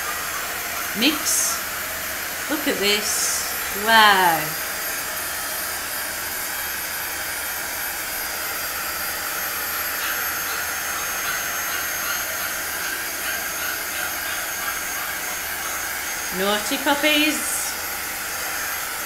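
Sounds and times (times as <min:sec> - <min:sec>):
heat gun fan blowing: 0:00.0 - 0:19.0.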